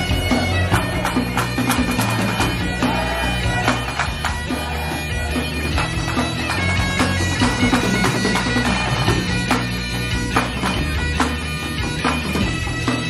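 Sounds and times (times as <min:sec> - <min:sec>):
bagpipes playing over drones: 0:00.0 - 0:13.0
drums beating: 0:00.0 - 0:13.0.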